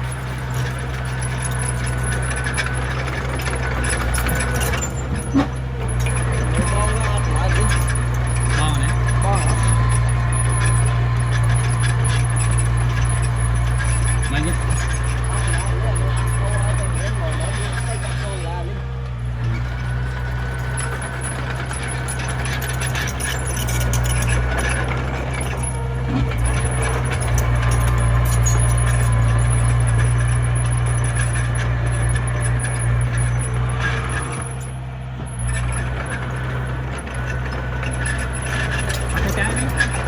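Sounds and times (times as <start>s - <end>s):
bulldozer diesel engine running: 0.0s - 40.0s
clanks and knocks: 0.0s - 40.0s.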